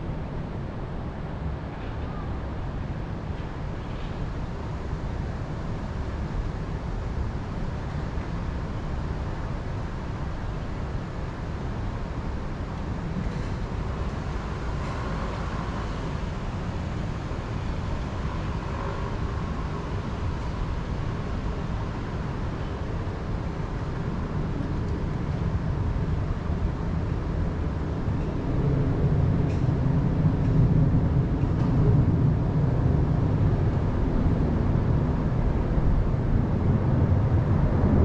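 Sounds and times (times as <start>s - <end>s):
wind in forest: 0.0s - 38.0s
wind rumble on microphone: 0.0s - 38.0s.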